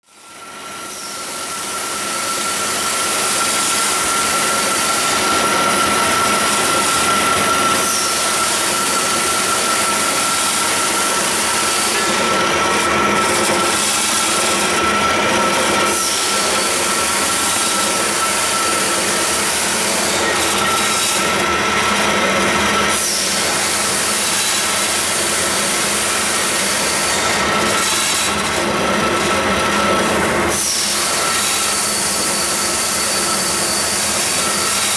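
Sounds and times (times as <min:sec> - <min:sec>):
bandsaw running: 0:00.9 - 0:34.9.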